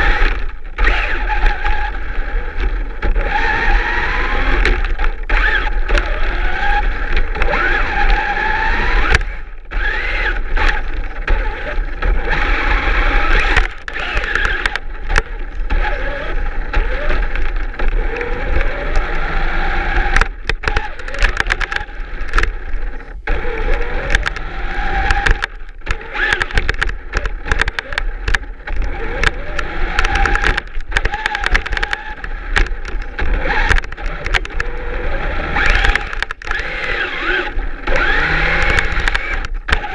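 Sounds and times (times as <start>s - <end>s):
plow scraping snow: 0.0s - 39.9s
toy truck electric motor whining: 0.0s - 39.9s.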